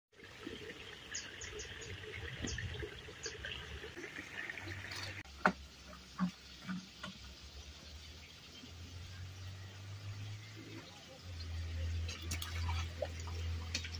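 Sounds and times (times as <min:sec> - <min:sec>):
stream water running: 0:00.1 - 0:13.9.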